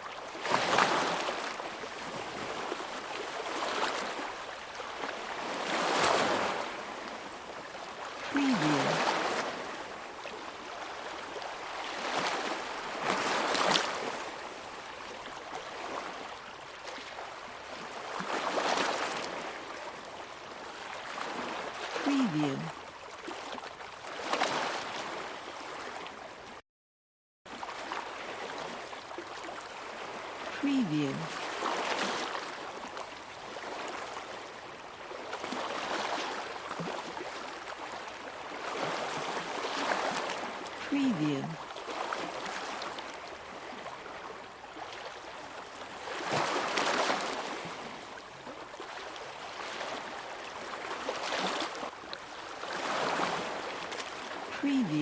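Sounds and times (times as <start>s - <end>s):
sea water lapping against shore: 0.0s - 26.6s, 27.5s - 55.0s.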